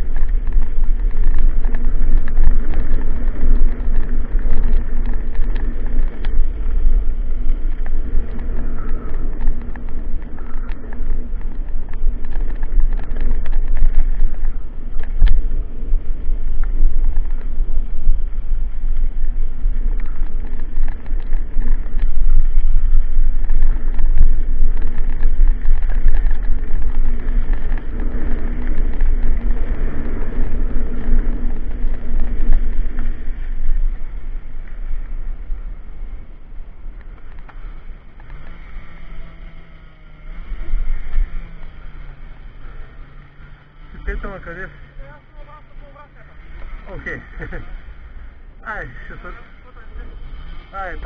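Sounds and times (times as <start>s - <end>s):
wind buffeting microphone: 0.0s - 45.0s
faint steady hum: 0.0s - 51.0s.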